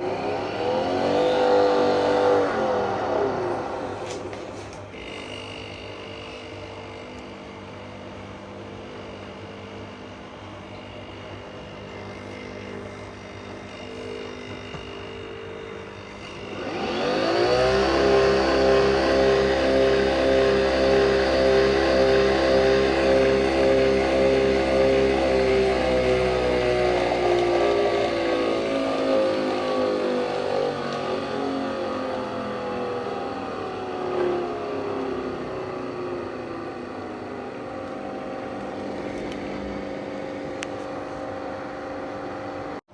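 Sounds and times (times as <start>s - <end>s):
coffee machine hum: 0.0s - 42.9s
coffee machine pump buzzing: 0.0s - 42.9s.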